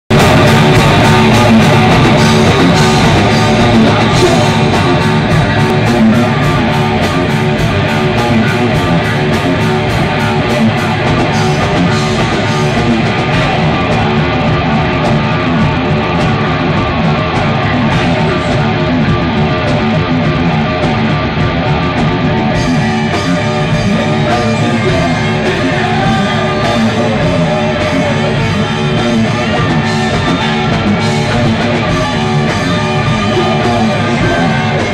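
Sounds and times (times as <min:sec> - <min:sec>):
metal band playing live: 0:00.1 - 0:34.9.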